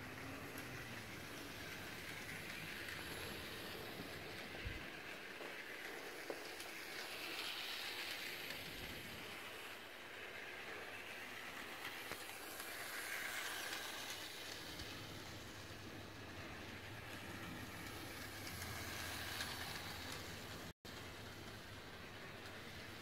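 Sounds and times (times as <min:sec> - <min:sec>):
model train whirring rattle: 0:00.0 - 0:23.0.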